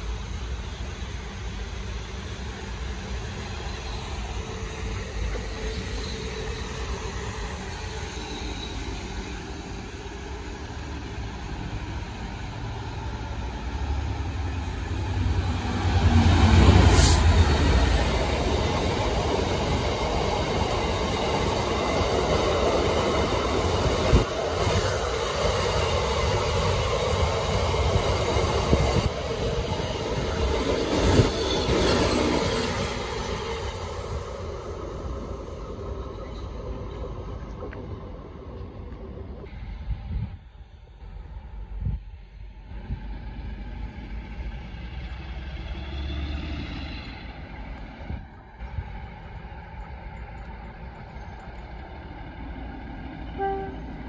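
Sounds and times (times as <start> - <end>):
diesel locomotive passing: 0.0 - 54.0
electric train rumbling past: 0.0 - 54.0.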